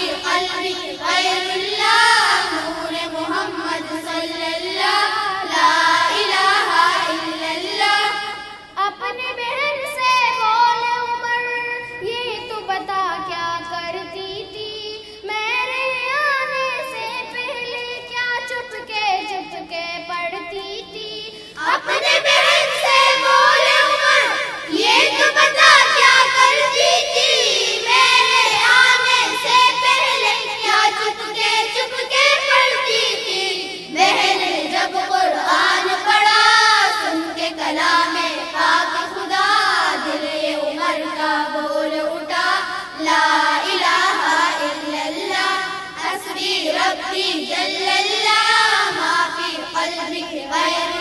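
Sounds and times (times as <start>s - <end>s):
children singing devotional song: 0.0s - 51.0s.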